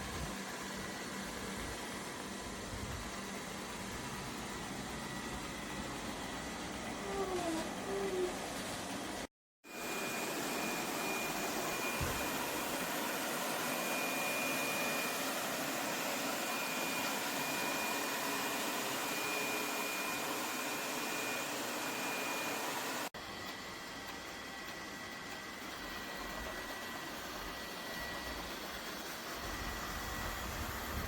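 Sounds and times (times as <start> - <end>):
robot vacuum humming and whining: 0.1 - 31.0.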